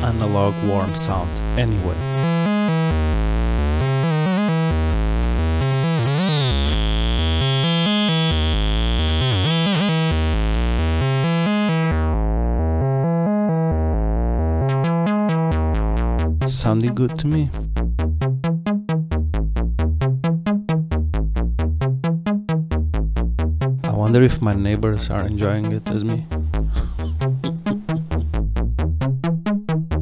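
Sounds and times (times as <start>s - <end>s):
modular synthesizer sequence: 0.0s - 30.0s.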